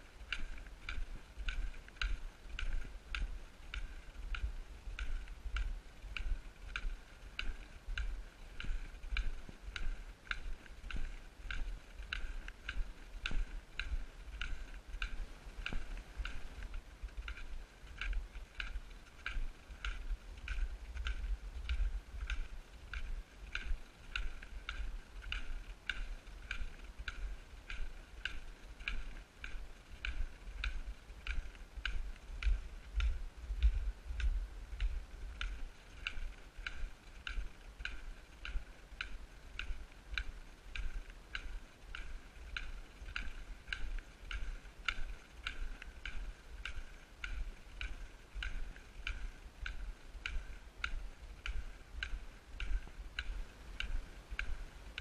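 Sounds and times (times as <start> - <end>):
camera movement rumble: 0.0 - 55.0.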